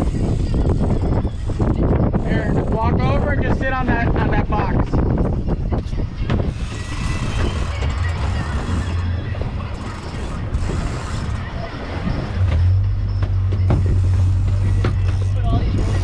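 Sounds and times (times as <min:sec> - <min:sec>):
boat engine running: 0:00.0 - 0:16.0
wind: 0:00.0 - 0:16.0.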